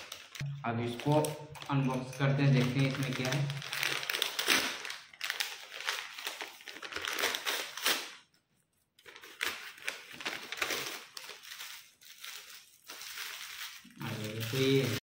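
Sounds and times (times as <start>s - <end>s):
paper packaging crinkling: 0.0s - 15.0s.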